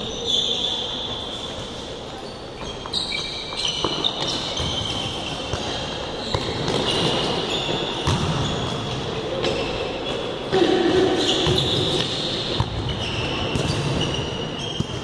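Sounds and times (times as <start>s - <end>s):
sneakers squeaking on floor: 0.0s - 15.0s.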